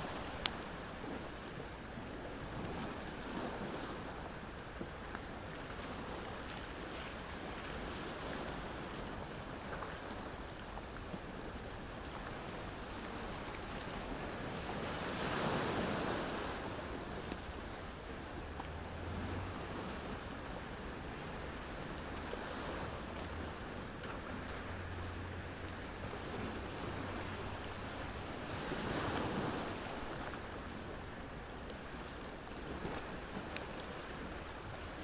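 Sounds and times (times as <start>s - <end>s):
ocean waves on shore: 0.0s - 35.0s.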